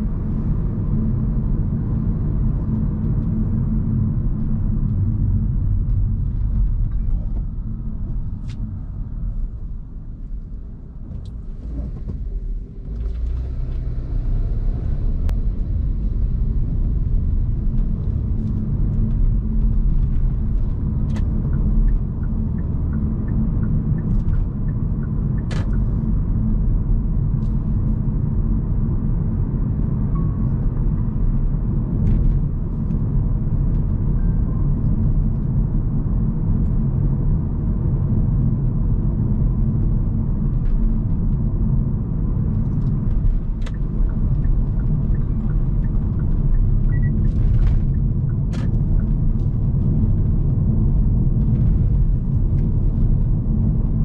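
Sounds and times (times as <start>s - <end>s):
road and tyre rumble inside car: 0.0s - 54.0s.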